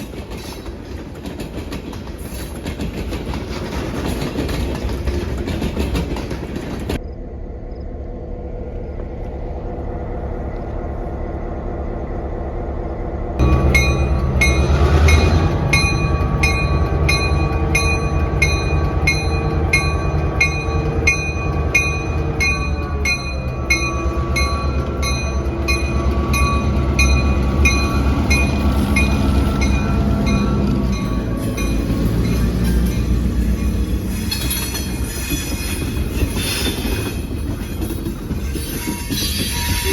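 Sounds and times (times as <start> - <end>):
train wheels clicking over rail joints: 0.0 - 7.1, 13.4 - 39.9
diesel locomotive drone: 0.0 - 39.9.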